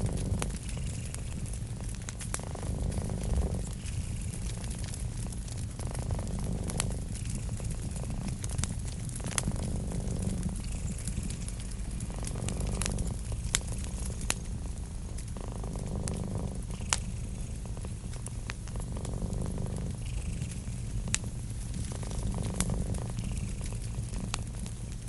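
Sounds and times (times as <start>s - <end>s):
cat purring: 0.0s - 25.0s
wood fire crackling: 0.0s - 25.0s.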